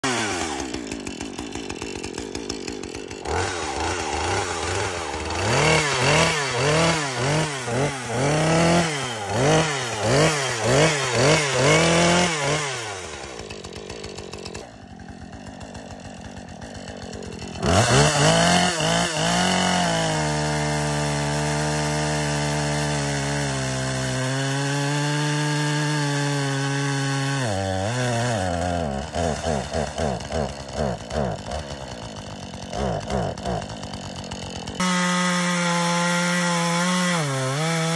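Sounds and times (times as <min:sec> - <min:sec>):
chainsaw cutting tree trunk: 0:00.0 - 0:37.9
chainsaw engine revving: 0:00.0 - 0:37.9.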